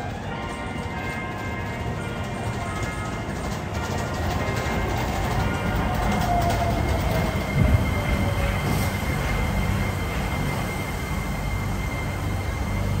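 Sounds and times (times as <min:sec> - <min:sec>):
train tyres rumbling: 0:00.0 - 0:13.0.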